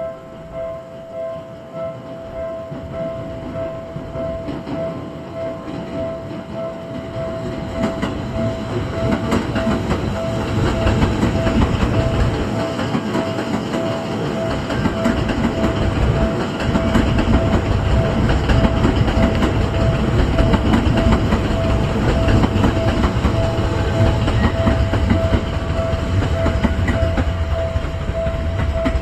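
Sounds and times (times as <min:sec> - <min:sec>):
level crossing alarm ringing: 0:00.0 - 0:29.0
train wheels clattering over rails: 0:02.6 - 0:29.0.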